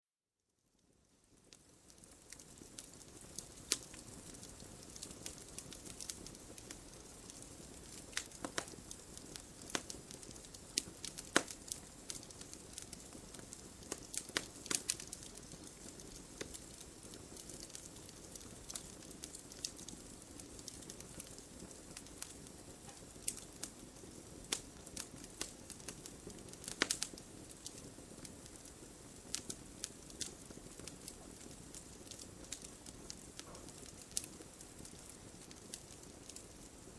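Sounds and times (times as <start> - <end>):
crackles and pops of burning logs: 0.7 - 36.9
wood fire hissing: 0.8 - 36.9.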